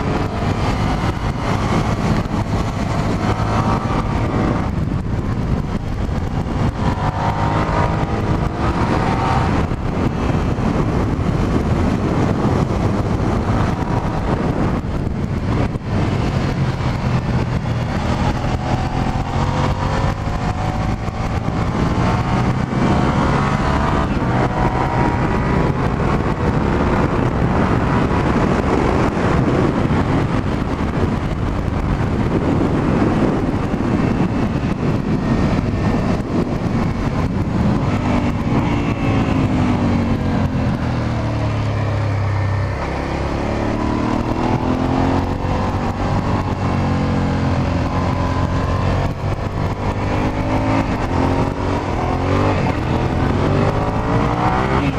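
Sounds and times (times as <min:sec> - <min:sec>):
muffled motorcycle engine revving: 0:00.0 - 0:54.9.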